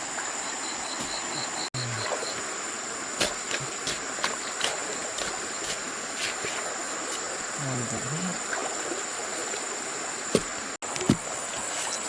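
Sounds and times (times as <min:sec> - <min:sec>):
insects chirring drone: 0:00.0 - 0:12.0.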